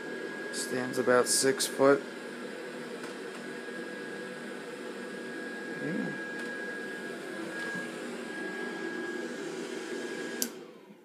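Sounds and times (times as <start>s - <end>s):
electric blower fan running: 0.0s - 11.0s.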